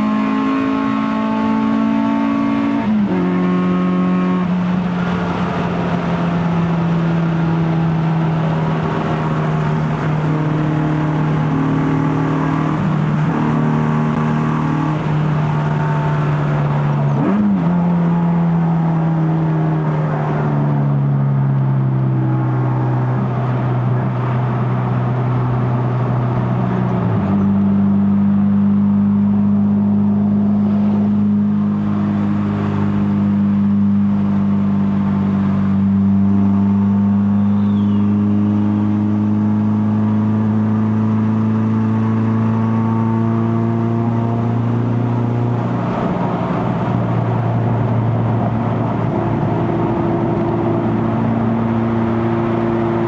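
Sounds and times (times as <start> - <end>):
car engine with loud exhaust: 0.0 - 53.0.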